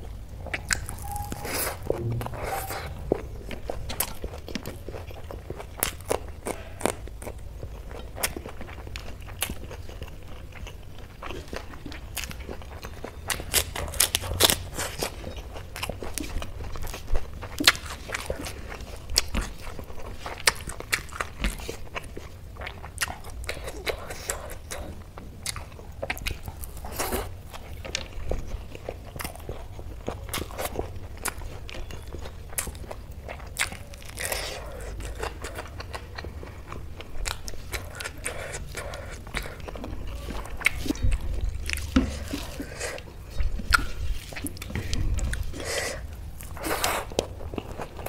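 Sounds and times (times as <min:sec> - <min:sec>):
chewing food: 0:00.0 - 0:48.0.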